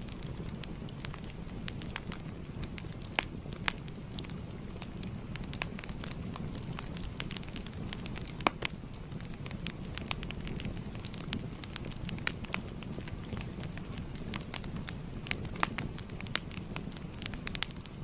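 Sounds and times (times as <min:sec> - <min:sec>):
fire pops and snaps: 0:00.0 - 0:18.0
low rumble of burning: 0:00.0 - 0:18.0.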